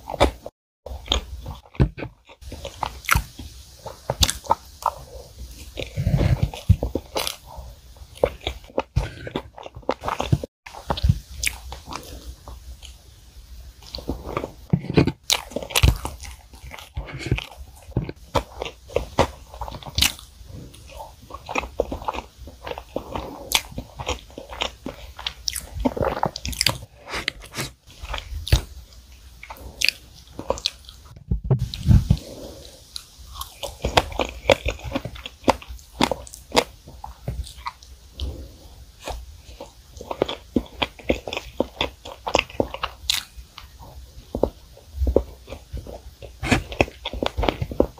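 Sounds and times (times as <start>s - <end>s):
chewing and biting cake: 0.0s - 13.0s, 13.8s - 47.9s.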